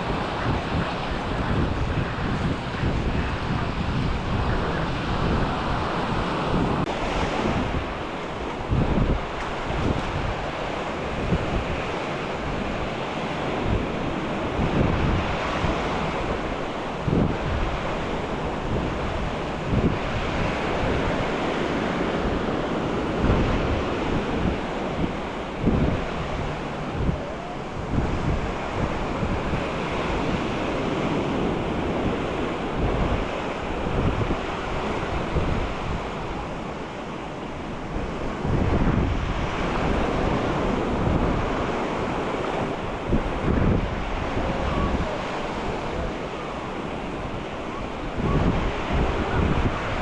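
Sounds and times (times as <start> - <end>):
sea waves washing onto beach: 0.0 - 50.0
wind buffeting microphone: 0.0 - 50.0.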